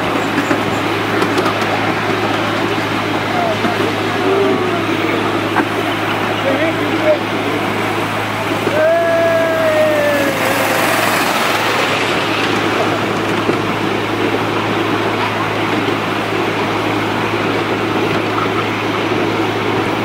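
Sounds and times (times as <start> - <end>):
miniature train rumbling on track: 0.0 - 20.0.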